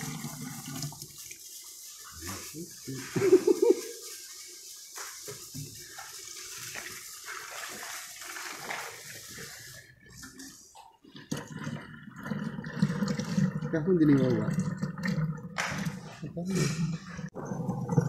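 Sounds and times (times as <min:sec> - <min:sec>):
liquid pouring into metal: 0:00.0 - 0:18.0.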